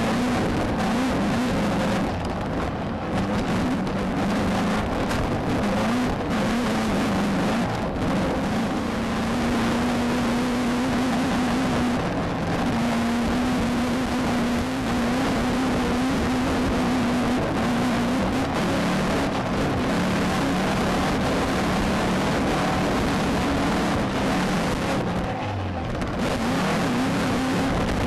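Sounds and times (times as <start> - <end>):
race car engine running hard: 0.0 - 28.0
rush of tyres dirt and wind: 0.0 - 28.0.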